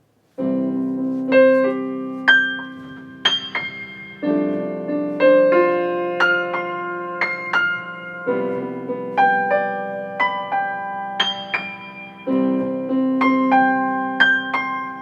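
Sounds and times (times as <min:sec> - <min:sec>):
piano duet: 0:00.0 - 0:15.0.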